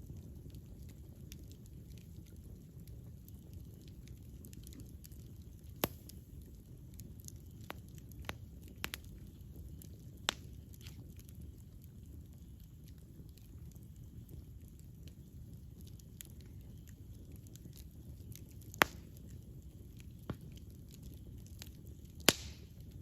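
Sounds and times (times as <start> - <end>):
campfire rumbling: 0.0 - 23.0
wood crackling and popping: 0.0 - 23.0.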